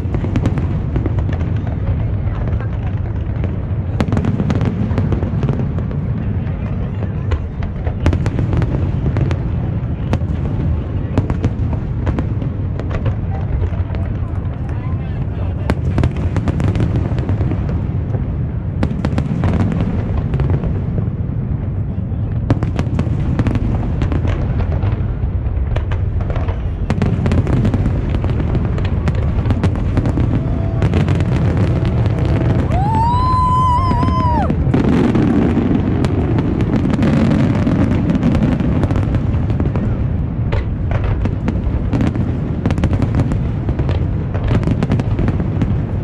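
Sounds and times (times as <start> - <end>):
fireworks booming: 0.0 - 46.0
fireworks crackling and popping: 0.0 - 46.0.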